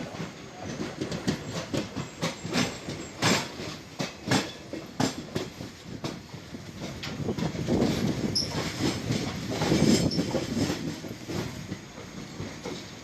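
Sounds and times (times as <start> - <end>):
train wheels clattering over rail joints: 0.0 - 13.0.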